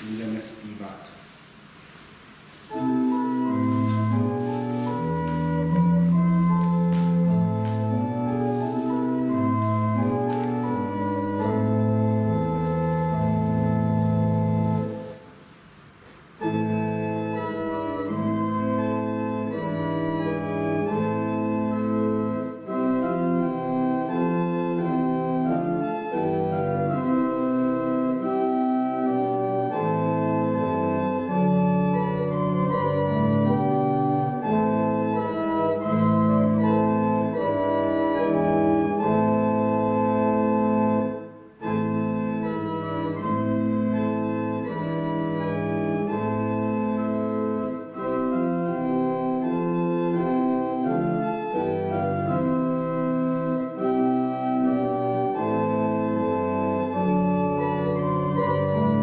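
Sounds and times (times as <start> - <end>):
church organ playing a hymn: 0.0 - 59.0.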